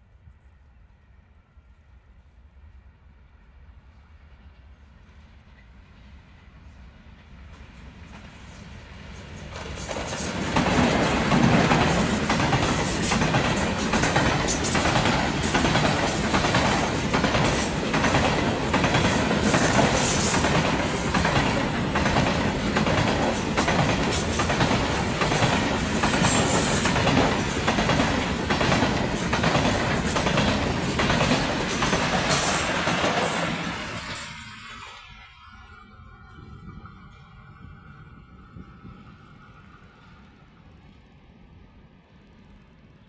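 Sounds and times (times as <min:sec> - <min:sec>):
freight train roar: 0:00.0 - 0:43.0
wheels clickety-clack on rail joints: 0:04.4 - 0:43.0.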